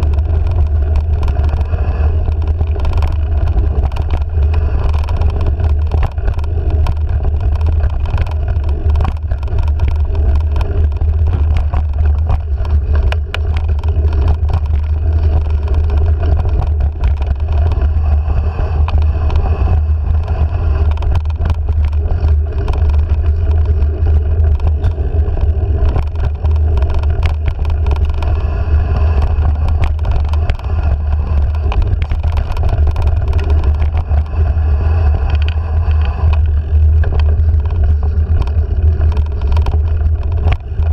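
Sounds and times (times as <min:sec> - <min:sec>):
bike clicks and rattles: 0:00.0 - 0:40.9
wind rumble on camera: 0:00.0 - 0:40.9.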